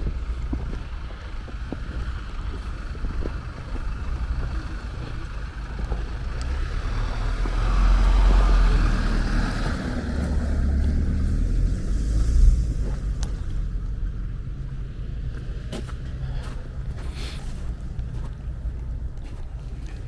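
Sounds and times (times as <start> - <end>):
vehicle passing rumble: 0.0 - 20.0.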